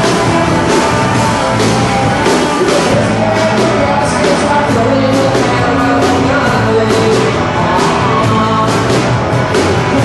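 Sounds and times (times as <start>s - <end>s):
drum and cymbal hits: 0.0s - 10.0s
rock band playing live: 0.0s - 10.0s.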